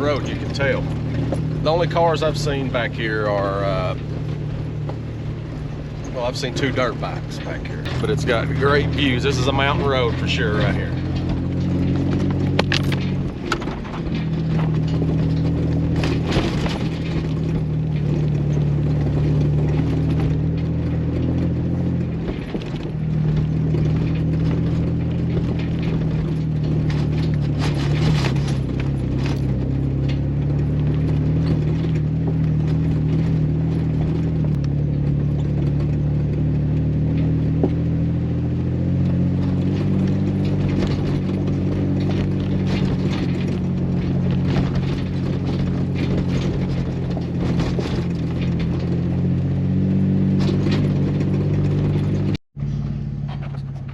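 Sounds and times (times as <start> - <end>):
car engine running: 0.0 - 53.9
knocks and rattles: 0.0 - 53.9.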